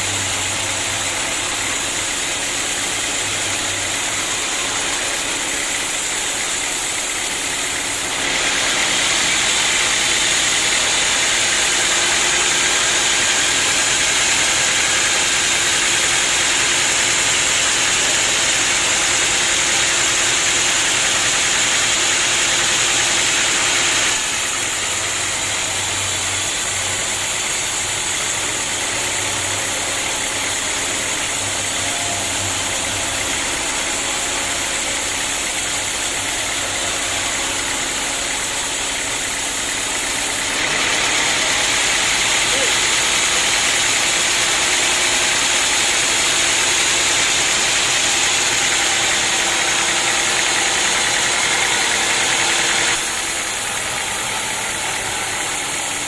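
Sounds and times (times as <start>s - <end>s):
saw blade cutting wood: 0.0s - 56.0s
sawmill running: 0.0s - 56.0s.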